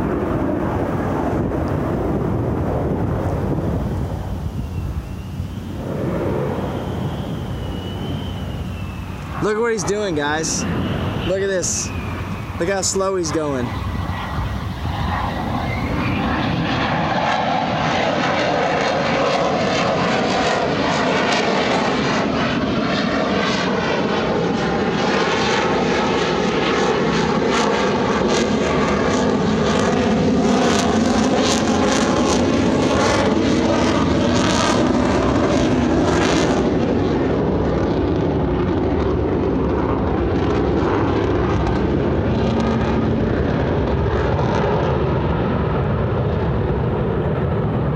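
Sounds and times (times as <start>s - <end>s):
jet engine roar: 0.0s - 47.9s.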